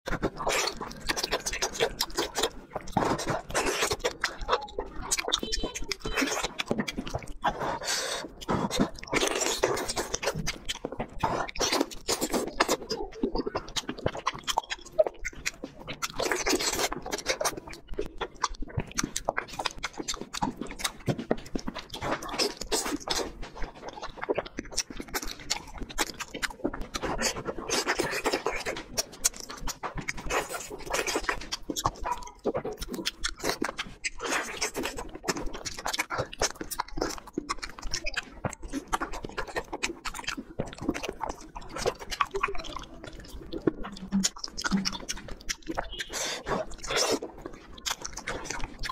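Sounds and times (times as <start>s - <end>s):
person chewing and lip-smacking: 0.1s - 48.9s.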